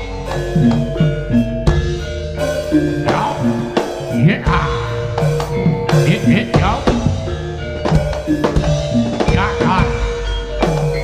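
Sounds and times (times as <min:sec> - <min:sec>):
drums struck in steady beat: 0:00.0 - 0:11.0
ringing metal mallet percussion: 0:00.0 - 0:11.0.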